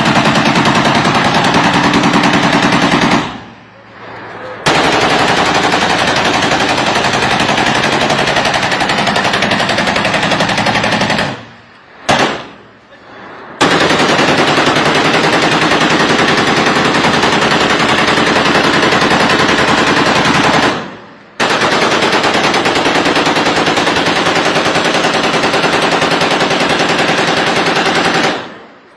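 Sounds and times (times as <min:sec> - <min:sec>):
machine-gun fire: 0:00.0 - 0:03.6, 0:04.6 - 0:12.6, 0:13.6 - 0:28.8.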